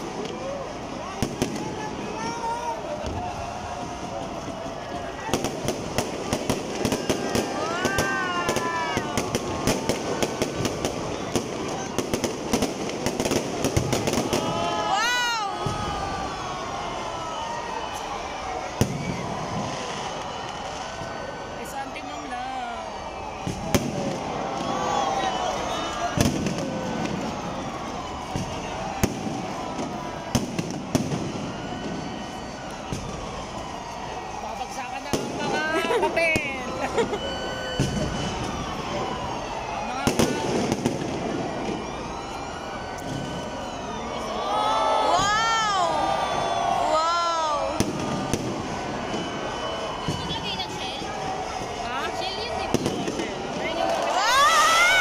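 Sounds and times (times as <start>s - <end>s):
fireworks bursting and popping: 0.0s - 21.5s, 22.9s - 43.8s, 47.7s - 54.2s
steady background din: 0.0s - 55.0s.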